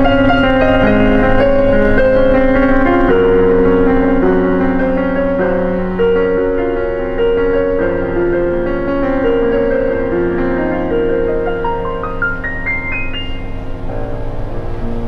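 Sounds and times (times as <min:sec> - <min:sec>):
keyboard playing held chords: 0:00.0 - 0:15.0.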